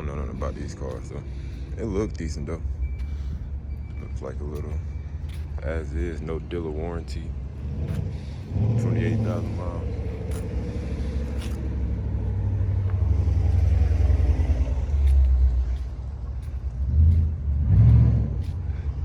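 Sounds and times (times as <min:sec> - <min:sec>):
loud low uneven rumble: 0:00.0 - 0:19.0.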